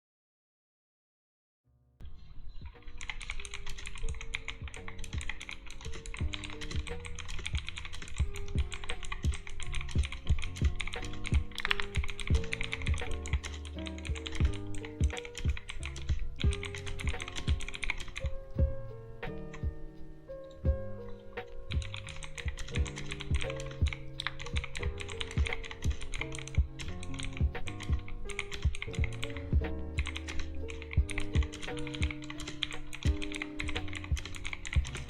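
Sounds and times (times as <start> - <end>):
background music: 2.0 - 35.0
clicky mechanical keyboard typing: 2.9 - 18.3, 21.7 - 35.0.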